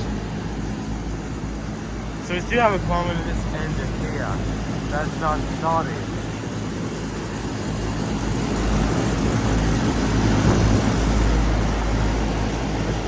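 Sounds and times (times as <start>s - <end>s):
air conditioner units humming: 0.0s - 13.0s.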